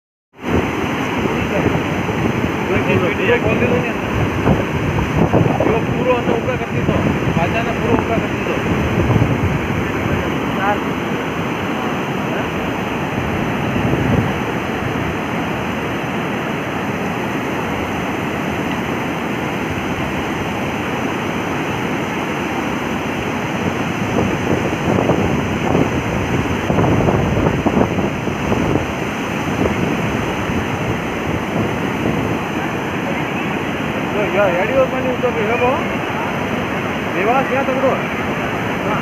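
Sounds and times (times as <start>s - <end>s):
turbulent water rushing: 0.4s - 39.0s.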